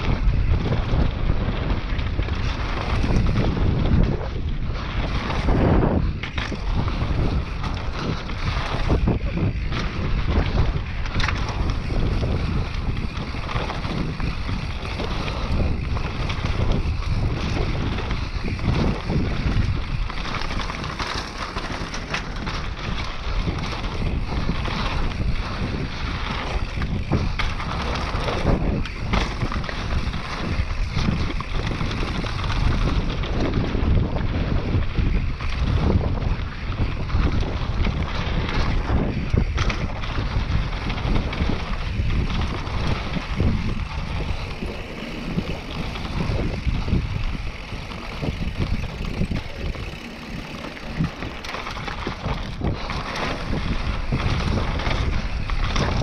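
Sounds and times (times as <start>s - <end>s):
bike clattering on bumps: 0.0s - 56.0s
bike tyre noise: 0.0s - 56.0s
wind buffeting microphone: 0.0s - 56.0s.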